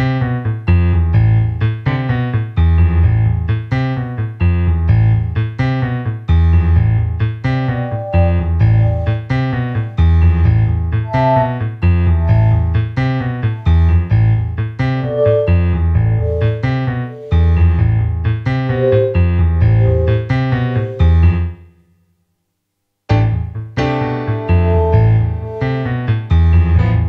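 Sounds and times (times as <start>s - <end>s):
electric keyboard chords: 0.0s - 21.6s, 23.1s - 27.0s
deep bass line: 0.8s - 1.8s, 2.6s - 3.6s, 4.4s - 21.5s, 24.4s - 27.0s.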